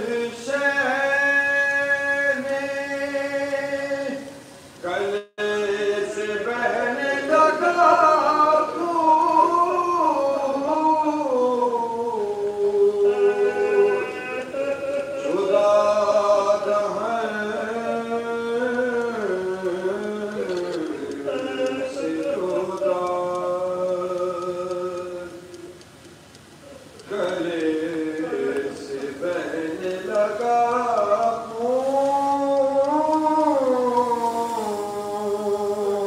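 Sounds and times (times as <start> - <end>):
man chanting: 0.0 - 25.8, 26.6 - 36.0.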